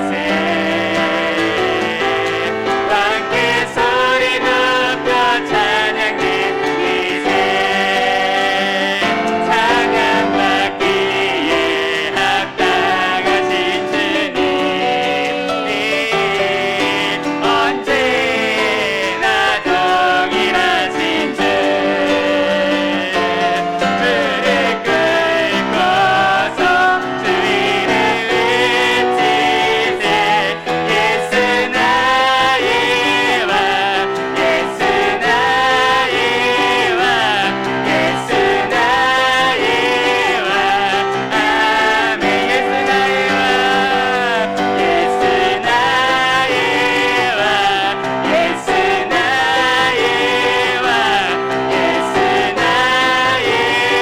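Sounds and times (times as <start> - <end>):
group singing worship song: 0.0 - 54.0
piano accompaniment: 0.0 - 54.0.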